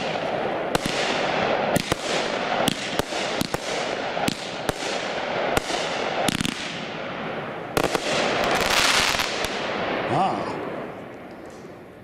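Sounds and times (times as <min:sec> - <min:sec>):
fireworks crackling hiss: 0:00.0 - 0:11.8.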